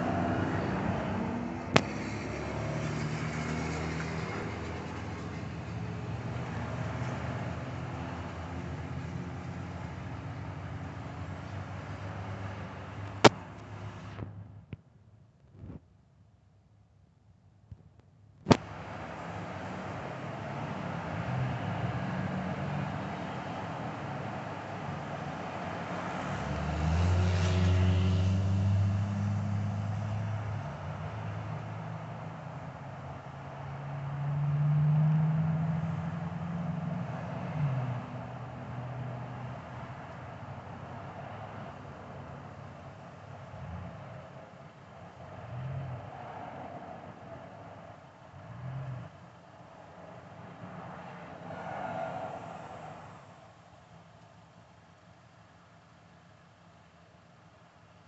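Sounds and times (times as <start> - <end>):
car passing by: 0.0 - 14.2, 18.5 - 54.3
tyres rushing on asphalt: 0.0 - 14.4, 18.5 - 58.0
vehicles driving past: 0.0 - 14.6, 18.5 - 58.0
steady traffic noise: 0.0 - 58.0.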